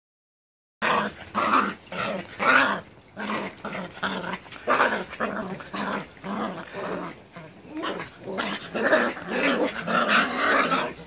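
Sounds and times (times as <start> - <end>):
puppies growling: 0.8 - 11.0.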